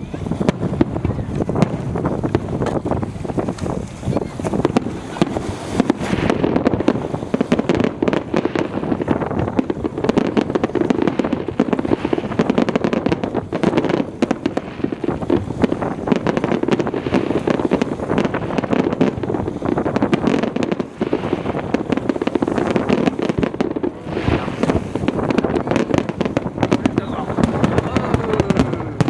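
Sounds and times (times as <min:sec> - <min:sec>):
fireworks crackling: 0:00.0 - 0:29.0
wind buffeting microphone: 0:00.0 - 0:29.0.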